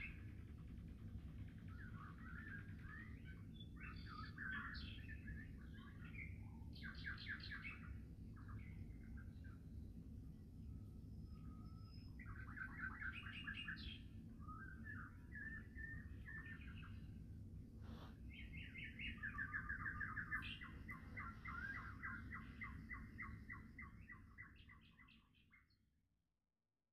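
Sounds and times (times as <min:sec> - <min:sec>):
low steady rumble: 0:00.0 - 0:24.4
small birds chirping: 0:00.0 - 0:25.8.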